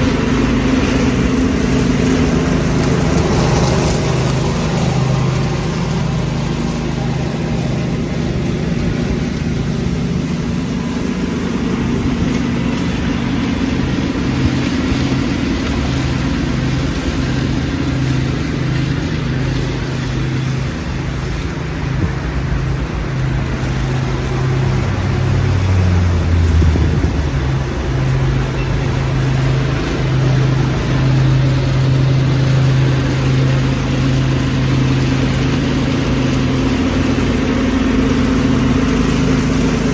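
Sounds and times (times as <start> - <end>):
lawn tractor engine running: 0.0 - 39.9
rushing air and debris: 0.0 - 39.9.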